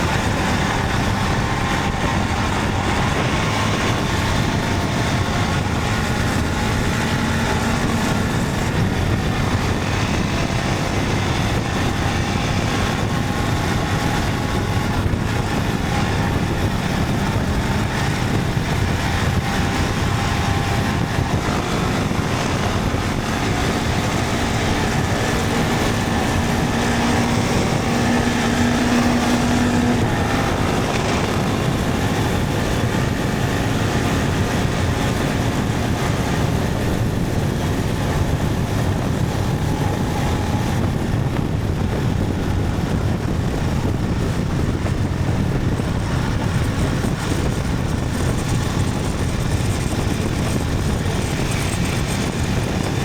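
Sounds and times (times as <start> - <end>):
motorcycle engine: 0.0 - 53.0
road noise: 0.0 - 53.0
wind noise: 0.0 - 53.0.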